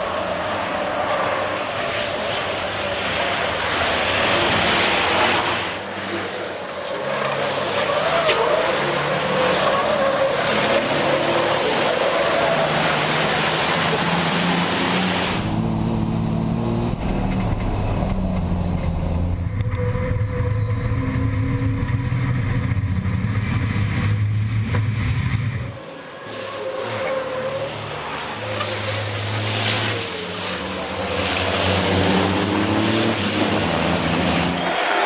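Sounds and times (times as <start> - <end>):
truck engines running hard: 0.0 - 35.0.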